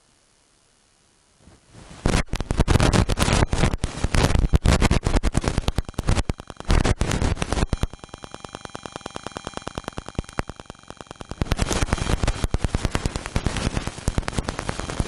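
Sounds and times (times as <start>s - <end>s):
microphone handling crackle: 1.4s - 15.0s.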